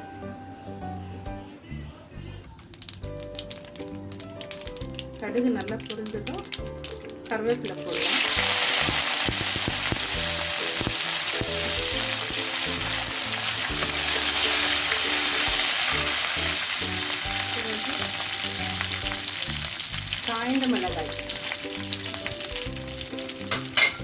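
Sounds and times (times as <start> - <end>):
seeds spluttering: 2.6 - 23.4
leaves sizzling in hot oil: 2.7 - 24.0.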